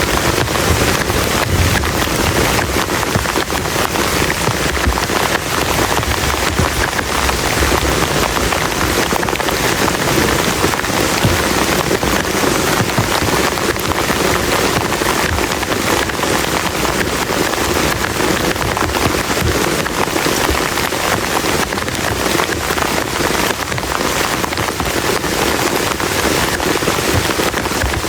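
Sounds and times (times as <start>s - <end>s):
heavy rain on plastic tarp: 0.0s - 28.0s.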